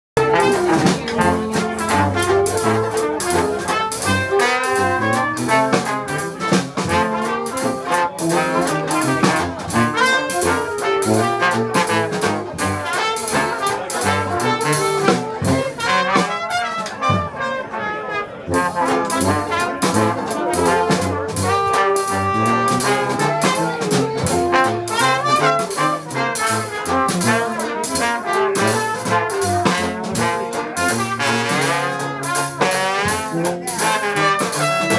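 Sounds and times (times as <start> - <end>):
jazz band playing: 0.2 - 34.9
trombone: 0.2 - 34.9
trumpet: 0.2 - 34.9.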